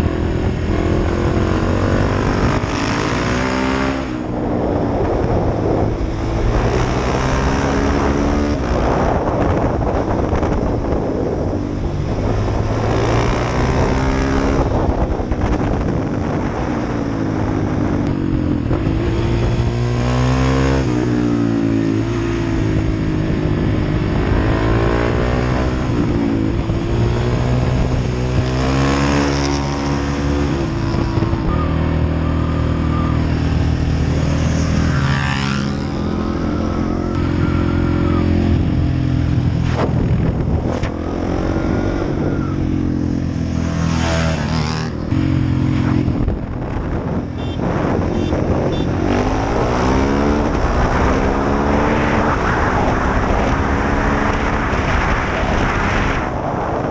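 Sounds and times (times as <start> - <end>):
motorcycle engine revving: 0.0 - 56.9
wind noise: 0.0 - 56.9.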